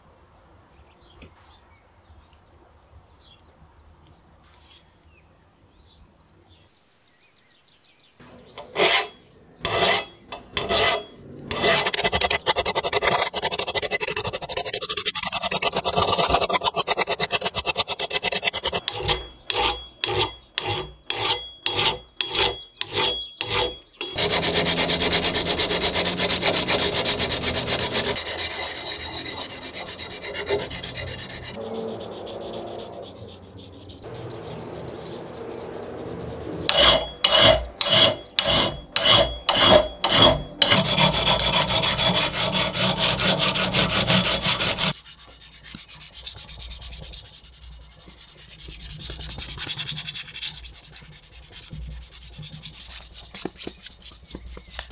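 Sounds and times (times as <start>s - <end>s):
file rasping on iron axe head: 8.5s - 54.9s.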